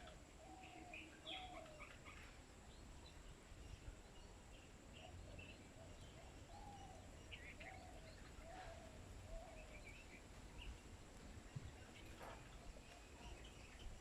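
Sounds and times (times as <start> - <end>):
faint birds calling: 0.0 - 14.0.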